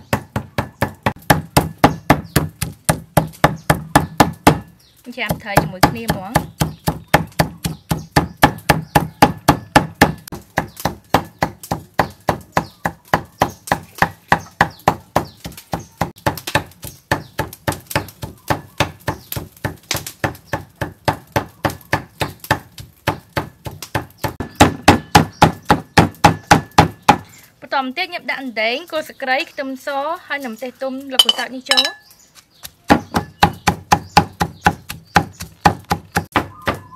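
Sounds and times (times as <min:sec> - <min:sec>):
cleaver chopping on wooden block: 0:00.0 - 0:04.7, 0:05.3 - 0:27.2, 0:32.6 - 0:36.9.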